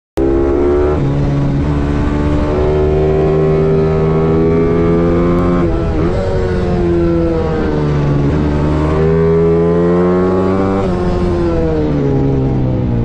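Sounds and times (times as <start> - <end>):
motorcycle engine at high revs: 0.2 - 13.0.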